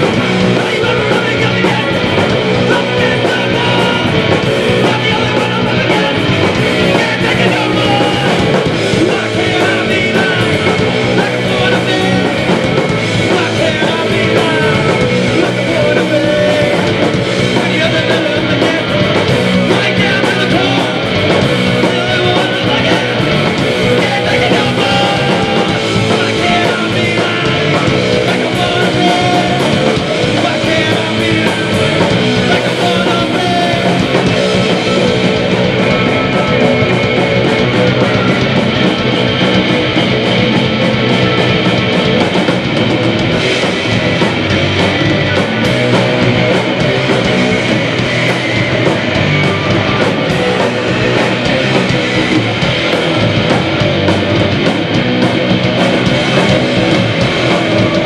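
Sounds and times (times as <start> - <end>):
distorted electric guitars: 0.0 - 58.0
drum kit: 0.0 - 58.0
electric bass: 0.0 - 58.0.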